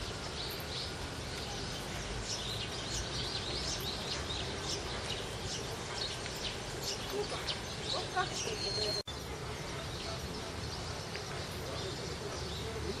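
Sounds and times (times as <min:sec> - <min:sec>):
background hiss: 0:00.0 - 0:13.0
small birds chirping: 0:00.0 - 0:13.0.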